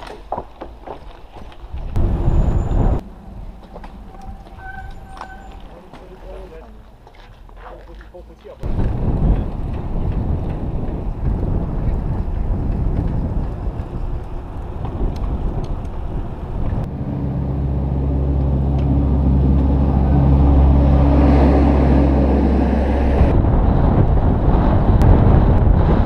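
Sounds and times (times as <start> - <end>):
wind and bicycle road noise: 0.0 - 26.0
truck engine humming: 1.6 - 7.6, 8.2 - 24.8.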